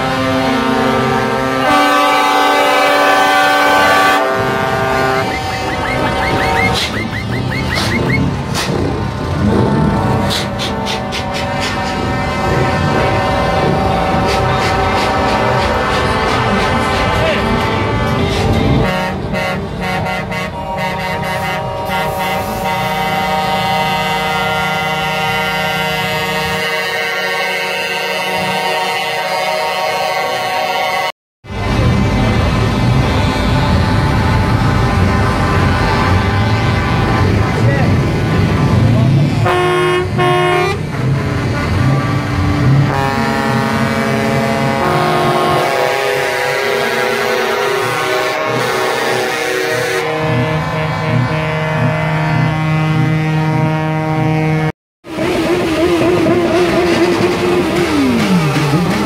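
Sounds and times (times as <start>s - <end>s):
truck air horns chord: 0.0s - 59.0s.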